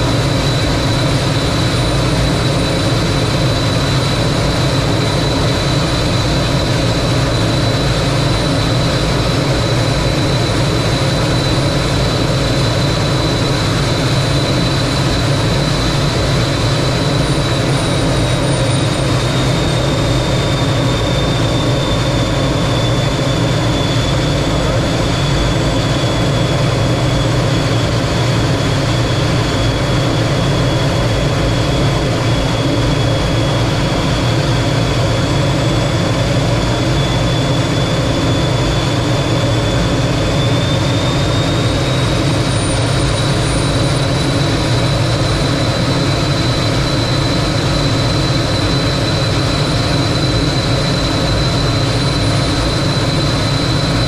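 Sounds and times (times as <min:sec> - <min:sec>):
jet engine in flight: 0:00.0 - 0:54.0.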